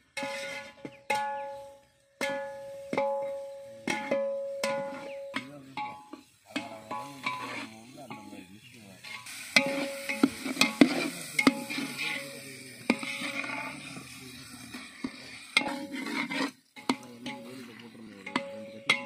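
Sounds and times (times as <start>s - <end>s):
ladle scraping a pot: 0.0s - 1.6s, 3.9s - 8.4s, 9.0s - 19.0s
oil sizzling in a pot: 0.2s - 19.0s.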